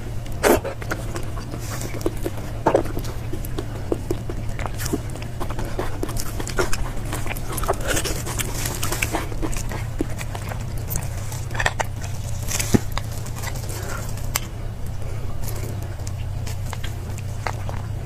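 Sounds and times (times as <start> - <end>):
steady low hum: 0.0 - 18.0
wet slurping and chewing: 0.0 - 18.0.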